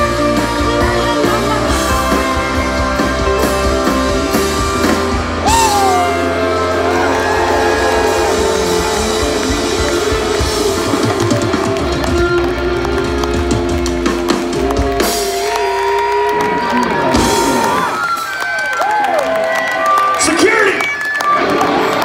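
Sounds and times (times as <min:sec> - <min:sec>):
bass guitar: 0:00.0 - 0:18.2
drums: 0:00.0 - 0:22.0
electric guitar: 0:00.0 - 0:22.0.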